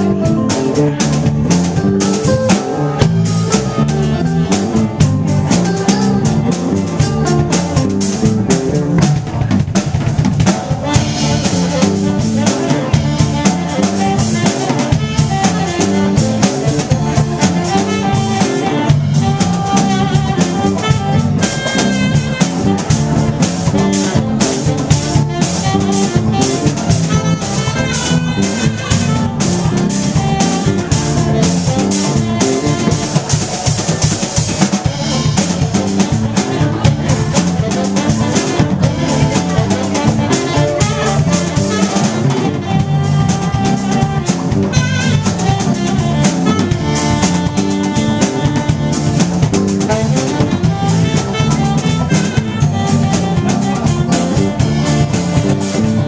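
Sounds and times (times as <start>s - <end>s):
drum kit beat: 0.0s - 56.0s
electric guitar: 0.0s - 56.0s
lead line with bending notes: 0.0s - 56.0s
live band playing: 0.0s - 56.0s
saxophone: 0.0s - 56.0s.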